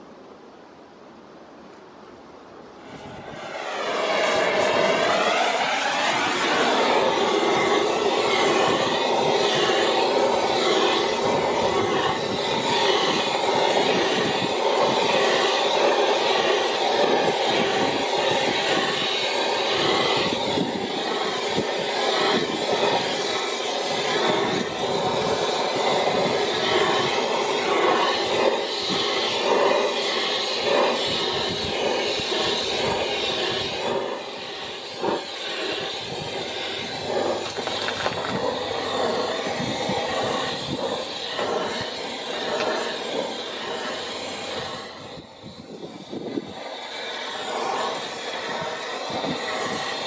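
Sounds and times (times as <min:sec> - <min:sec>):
gas torch flame rushing: 0:02.7 - 0:50.0.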